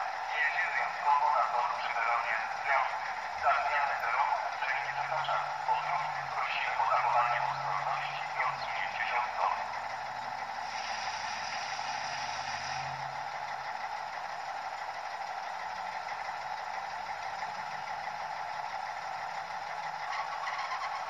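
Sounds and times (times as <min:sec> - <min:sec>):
diesel engine idling through speaker: 0:00.0 - 0:21.0.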